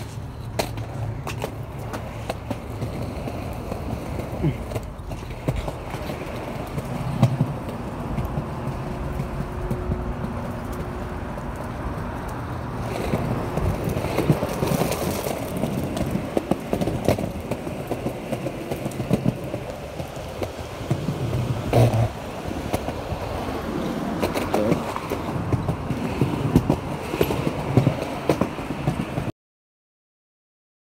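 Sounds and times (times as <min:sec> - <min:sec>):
skateboard wheels rolling on concrete: 0:00.0 - 0:29.3
skateboard knocks: 0:00.5 - 0:12.0, 0:12.8 - 0:23.4, 0:24.1 - 0:29.3.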